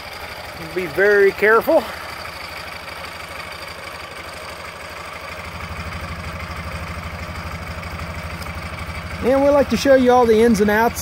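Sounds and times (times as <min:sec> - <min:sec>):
engine clatter: 0:00.0 - 0:11.0
motorcycle engine idling: 0:00.0 - 0:11.0.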